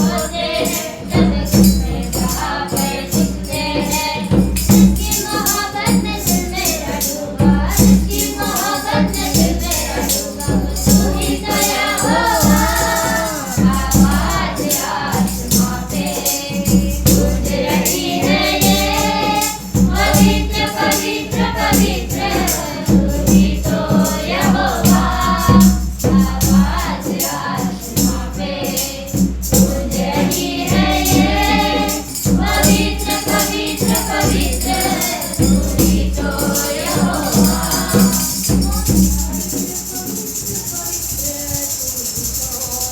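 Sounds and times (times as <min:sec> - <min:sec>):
group singing worship song: 0:00.0 - 0:42.9
tambourine-like percussion: 0:00.0 - 0:42.9.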